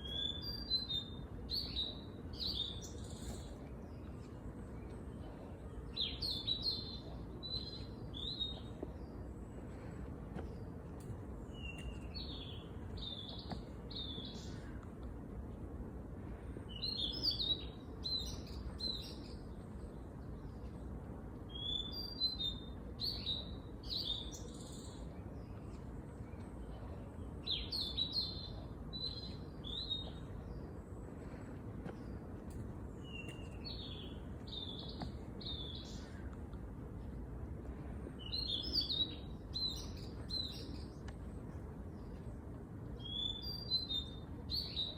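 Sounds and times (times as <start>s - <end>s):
low background noise: 0.0s - 44.9s
songbird singing: 0.0s - 44.9s.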